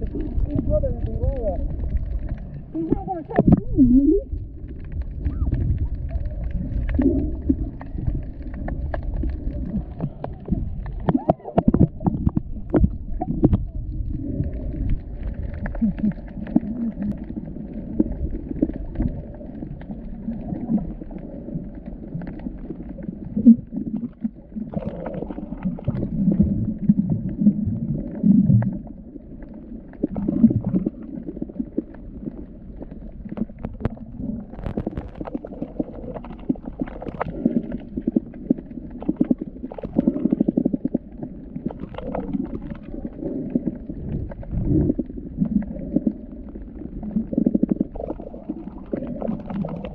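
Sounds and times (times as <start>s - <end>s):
underwater rumbling and gurgling: 0.0s - 49.9s.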